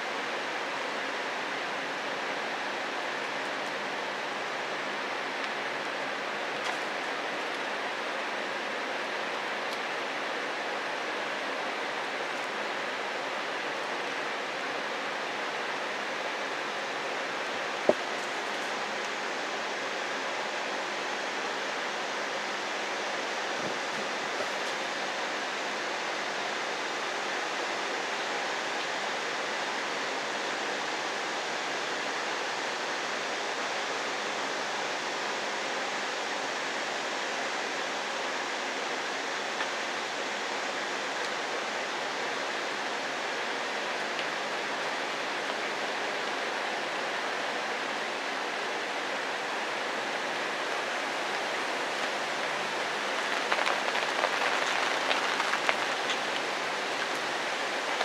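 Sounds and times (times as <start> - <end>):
steady rain hissing: 0.0 - 58.0.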